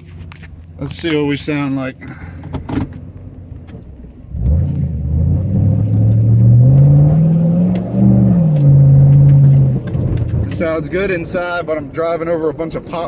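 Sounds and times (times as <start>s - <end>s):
car engine accelerating: 2.1s - 13.0s.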